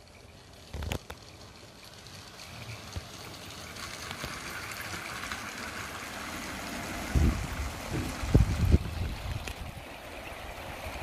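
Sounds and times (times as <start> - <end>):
model train wheels rolling on track: 0.0 - 11.0.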